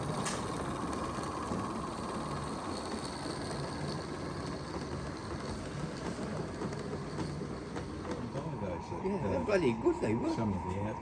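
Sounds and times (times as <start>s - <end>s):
wheels clicking on track: 0.0s - 11.0s.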